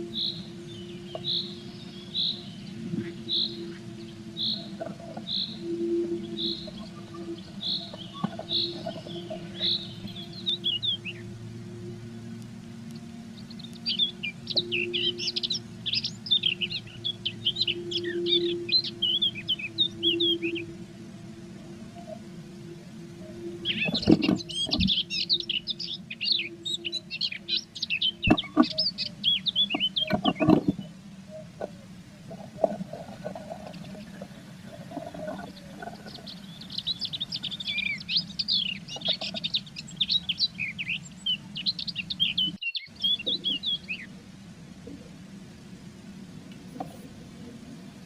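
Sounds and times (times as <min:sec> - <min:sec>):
birds twittering: 0:00.0 - 0:48.0
low hum: 0:00.0 - 0:48.0.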